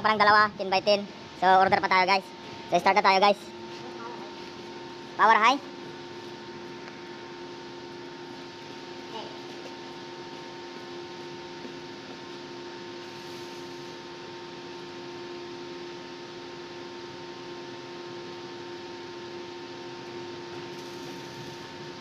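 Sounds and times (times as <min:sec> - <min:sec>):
steady multi-tone hum: 0:00.0 - 0:22.0.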